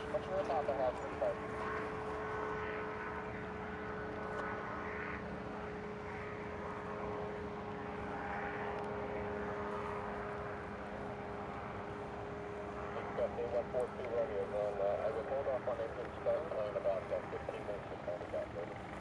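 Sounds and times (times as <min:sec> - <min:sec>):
constant hum: 0:00.0 - 0:19.0
jet engines passing overhead: 0:00.0 - 0:19.0.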